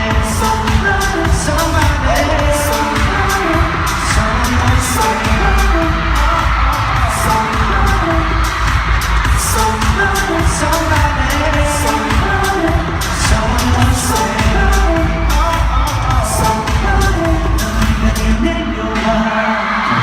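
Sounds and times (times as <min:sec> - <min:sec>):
group singing live: 0:00.0 - 0:20.0
pop backing track with heavy bass: 0:00.0 - 0:20.0.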